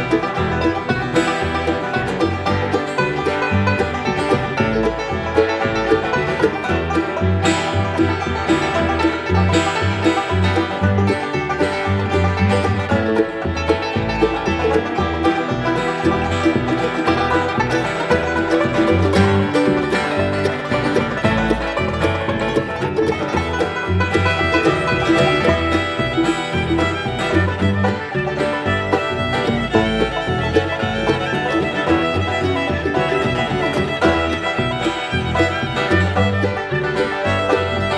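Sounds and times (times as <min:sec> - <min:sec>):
fast banjo picking: 0:00.0 - 0:37.9
fiddle: 0:00.0 - 0:37.9
guitar: 0:00.0 - 0:37.9
stepping bass line: 0:00.0 - 0:37.9.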